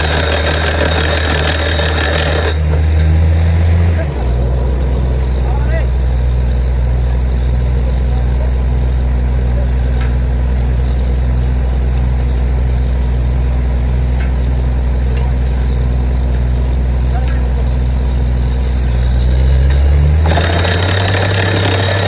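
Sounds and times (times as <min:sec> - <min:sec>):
drilling rig engine drone: 0:00.0 - 0:22.0.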